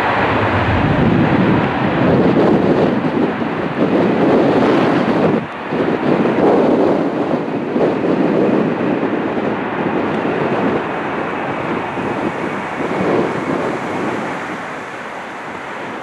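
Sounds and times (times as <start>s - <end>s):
jet engine noise: 0.0s - 16.0s
wind buffeting microphone: 0.0s - 16.0s.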